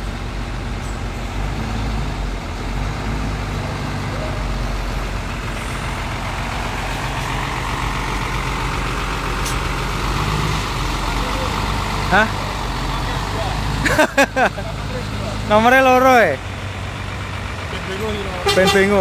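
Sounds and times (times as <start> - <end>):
diesel bus engine rumble: 0.0 - 19.0.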